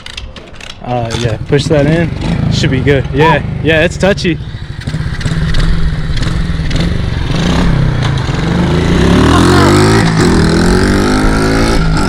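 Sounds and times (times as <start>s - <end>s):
mini bike engines running: 0.0s - 12.0s
engine revving up: 1.6s - 12.0s.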